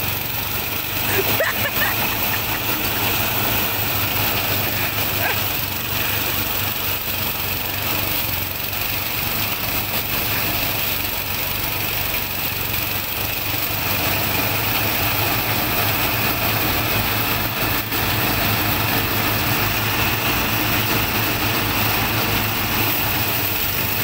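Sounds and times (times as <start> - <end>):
rice thresher engine humming: 0.0 - 24.0.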